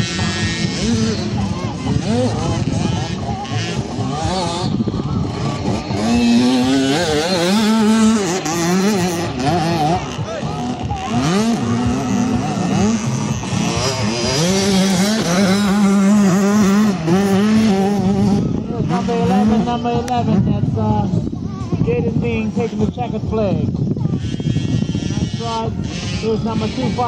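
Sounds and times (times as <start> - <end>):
motocross bikes revving: 0.0 - 27.0.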